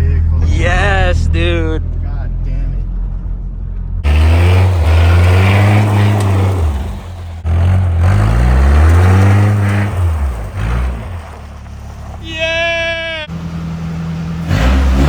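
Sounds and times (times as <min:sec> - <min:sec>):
pickup engine accelerating hard: 0:00.0 - 0:12.6, 0:13.3 - 0:15.0.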